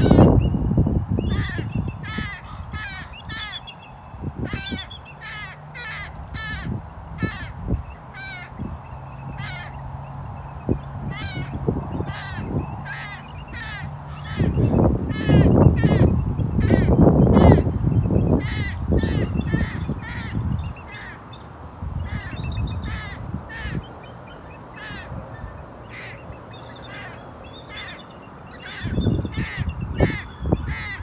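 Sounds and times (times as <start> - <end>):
ravens calling: 0.0 - 0.4, 1.2 - 3.8, 4.4 - 9.8, 11.0 - 17.7, 18.3 - 21.4, 22.0 - 31.0.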